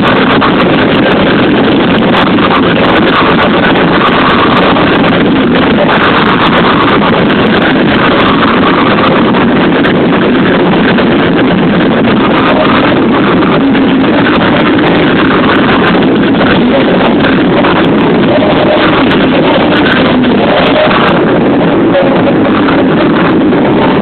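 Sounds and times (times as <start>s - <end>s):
distorted live band music: 0.0s - 24.0s.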